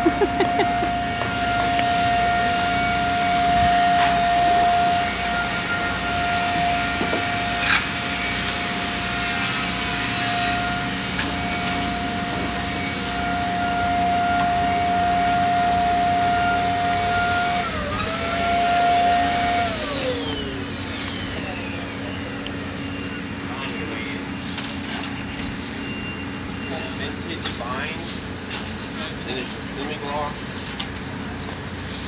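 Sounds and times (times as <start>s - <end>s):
high-pitched electric motor running: 0.0s - 28.1s.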